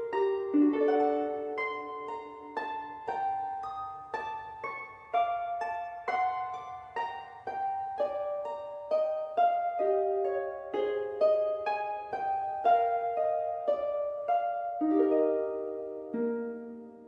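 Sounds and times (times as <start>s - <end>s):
slow plucked melody: 0.0s - 17.0s.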